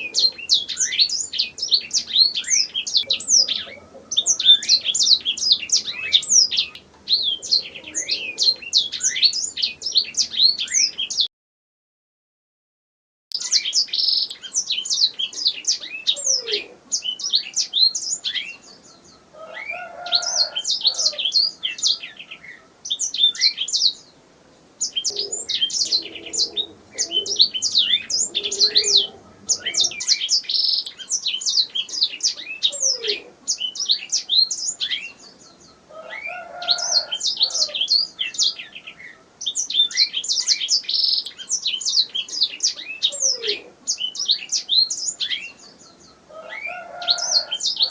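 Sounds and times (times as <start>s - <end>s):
canary singing: 0.0s - 11.3s, 13.3s - 24.1s, 24.8s - 47.9s.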